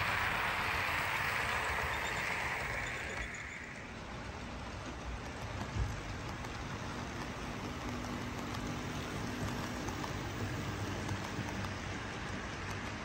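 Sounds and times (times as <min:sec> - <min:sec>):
low steady hum of train: 0:00.0 - 0:13.0
model train wheels rushing: 0:00.0 - 0:13.0.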